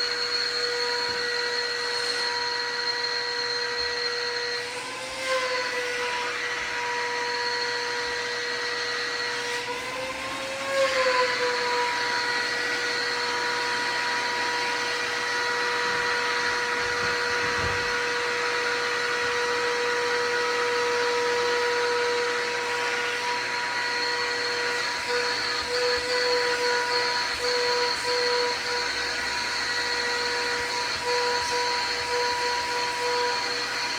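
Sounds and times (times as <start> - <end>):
shop vacuum running: 0.0 - 33.9.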